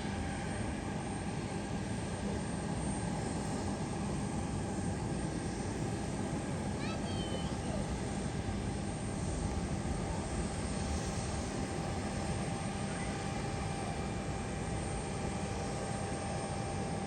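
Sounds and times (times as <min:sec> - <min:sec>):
airliner engines rushing: 0:00.0 - 0:17.0.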